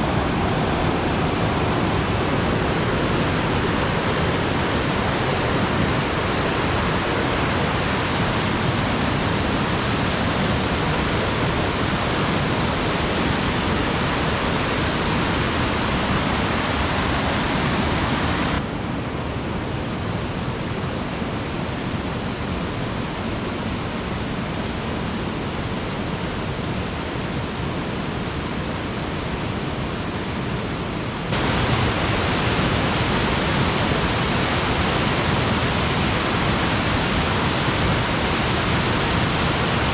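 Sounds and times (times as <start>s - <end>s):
rushing water: 0.0s - 19.0s, 19.6s - 39.9s.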